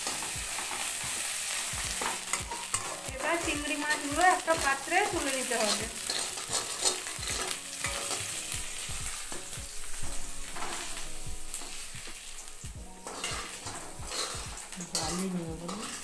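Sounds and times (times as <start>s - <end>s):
metal spatula scraping a pan: 0.0s - 16.0s
oil sizzling in a pan: 0.0s - 16.0s.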